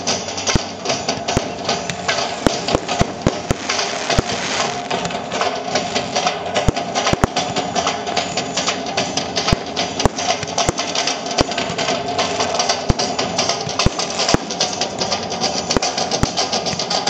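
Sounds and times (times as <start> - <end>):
fireworks bangs: 0.0 - 16.9
fireworks crackling: 0.0 - 17.0.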